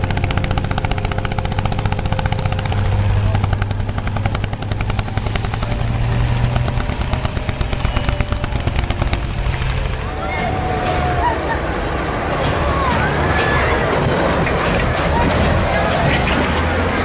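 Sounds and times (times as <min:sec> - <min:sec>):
tractor engine chugging: 0:00.0 - 0:17.0.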